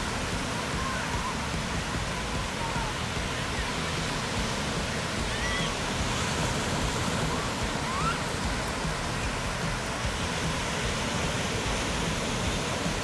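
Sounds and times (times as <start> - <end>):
moving water rushing: 0.0 - 13.0.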